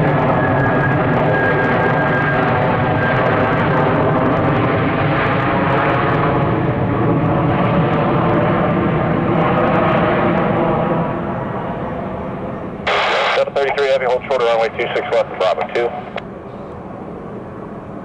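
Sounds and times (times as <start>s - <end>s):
jet engines running loud: 0.0s - 18.0s.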